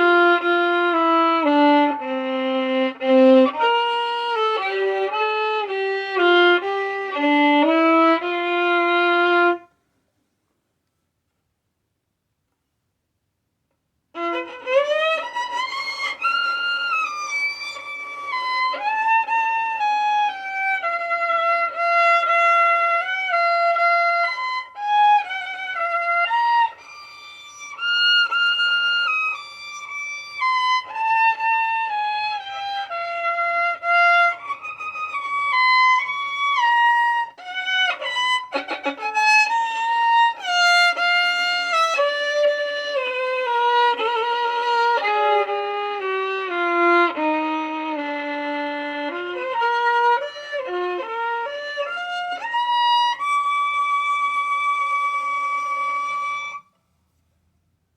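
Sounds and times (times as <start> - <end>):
solo violin slow melody: 0.0 - 9.8, 14.1 - 56.8.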